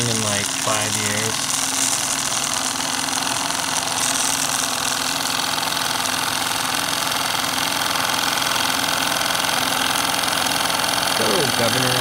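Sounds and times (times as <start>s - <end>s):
model steam engine running: 0.0s - 12.0s.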